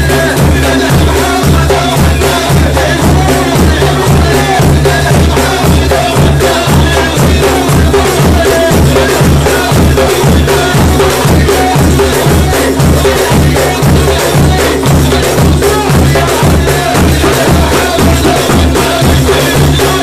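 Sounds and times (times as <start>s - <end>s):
group of men chanting: 0.0s - 20.0s
hand-struck percussion: 0.0s - 20.0s.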